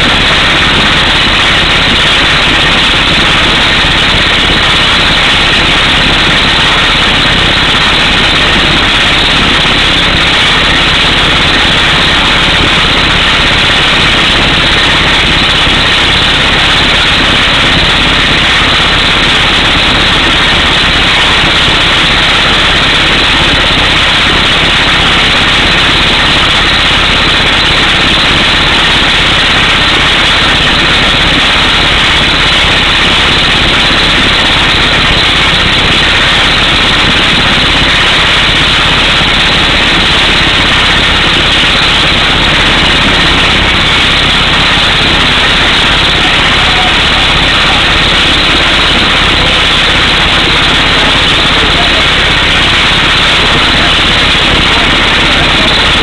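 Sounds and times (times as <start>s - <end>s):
air hammer drilling rock: 0.0s - 56.0s
engine noise: 0.0s - 56.0s.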